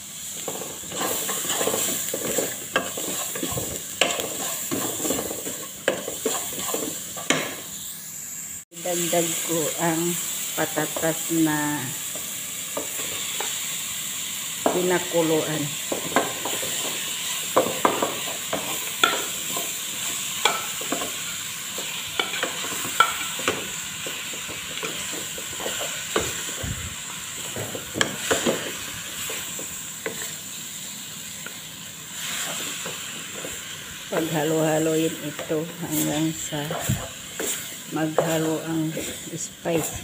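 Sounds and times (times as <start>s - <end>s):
food sizzling: 0.0s - 40.0s.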